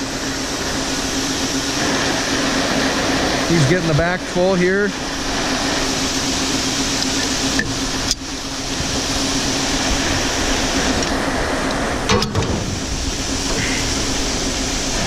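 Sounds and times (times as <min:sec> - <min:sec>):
grain auger running: 0:00.0 - 0:15.0.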